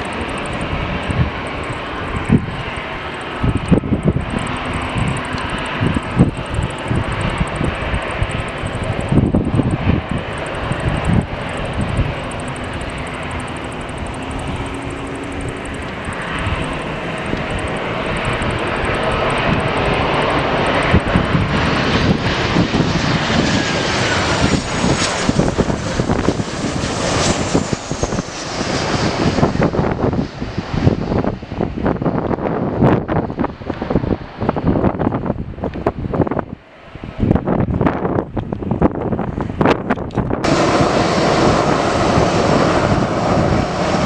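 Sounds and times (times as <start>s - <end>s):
jet aircraft engines passing: 0.0s - 44.0s
wind rumbling on microphone: 0.0s - 44.0s.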